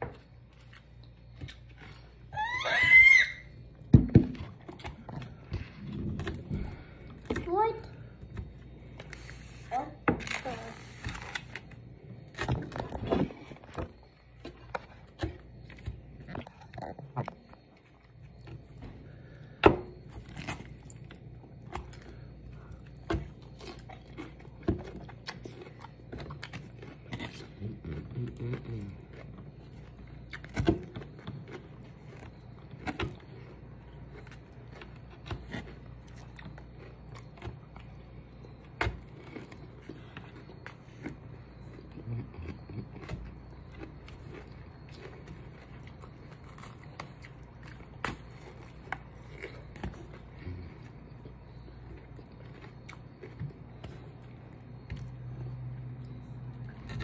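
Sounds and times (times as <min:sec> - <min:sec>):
person chewing food: 0:00.0 - 0:02.3, 0:03.4 - 0:57.0.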